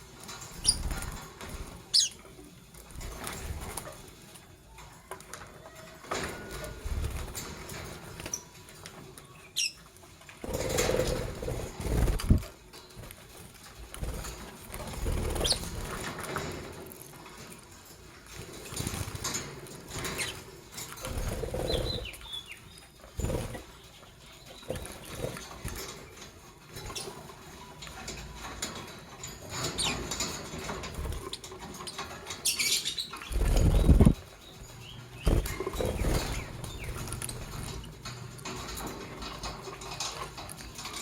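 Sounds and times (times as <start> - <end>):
birds flapping wings: 0.1 - 2.1, 2.7 - 4.2, 6.0 - 9.1, 10.4 - 23.9, 24.6 - 32.1, 33.1 - 34.4, 35.2 - 41.0.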